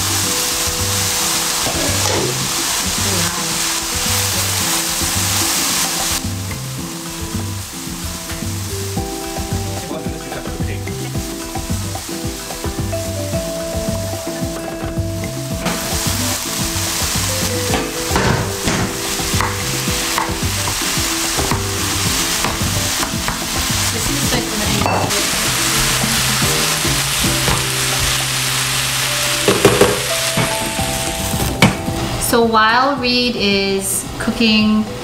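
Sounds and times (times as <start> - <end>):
vegetables sizzling in a frying pan: 0.0 - 33.3.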